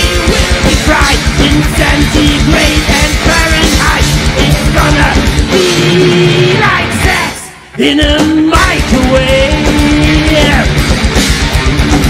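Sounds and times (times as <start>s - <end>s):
rapid kick-drum strokes: 0.0s - 7.4s, 8.0s - 12.0s
bass guitar: 0.0s - 12.0s
distorted electric guitars: 0.0s - 12.0s.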